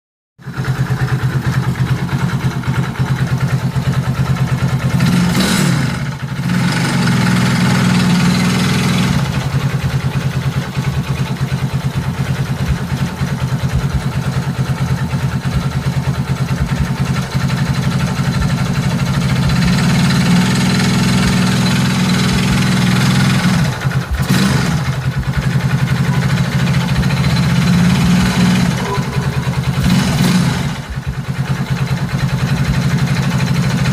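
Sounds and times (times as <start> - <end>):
engine idling and revving: 0.4 - 33.9.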